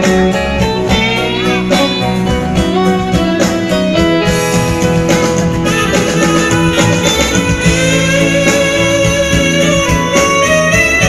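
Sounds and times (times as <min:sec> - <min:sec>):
keyboard playing pop music: 0:00.0 - 0:11.0.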